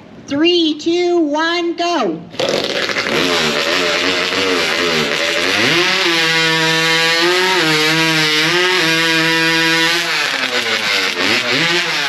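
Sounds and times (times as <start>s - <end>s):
chainsaw cutting a log: 2.3s - 12.0s.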